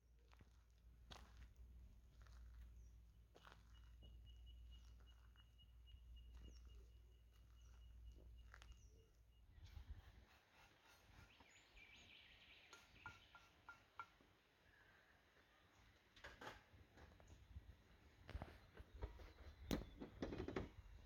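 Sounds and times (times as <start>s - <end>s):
faint bird chirps: 2.4s - 16.0s, 17.2s - 20.6s.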